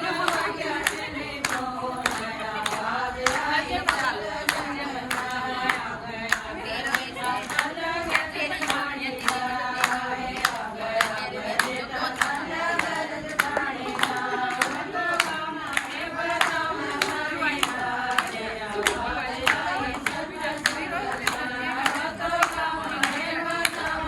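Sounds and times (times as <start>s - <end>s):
group singing devotional song: 0.0s - 24.0s
hand claps: 0.0s - 24.0s.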